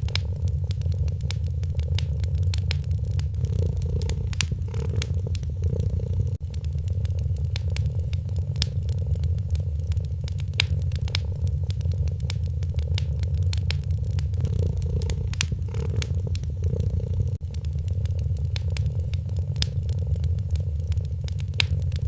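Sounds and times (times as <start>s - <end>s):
cat purring: 0.0s - 22.0s
wood fire crackling: 0.0s - 22.0s.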